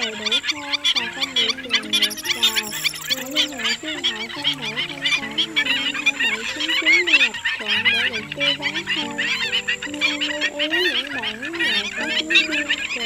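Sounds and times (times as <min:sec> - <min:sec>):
shorebirds yapping: 0:00.0 - 0:13.0.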